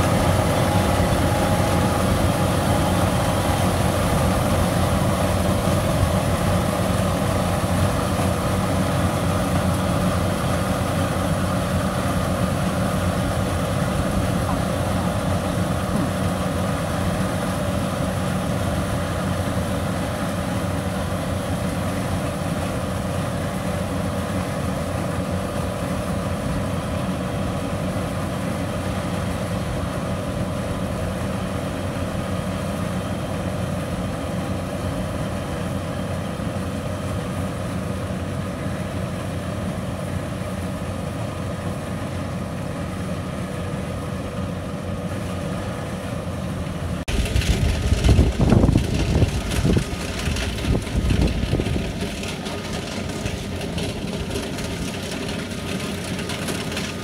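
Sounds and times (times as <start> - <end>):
combine harvester engine droning: 0.0 - 57.0.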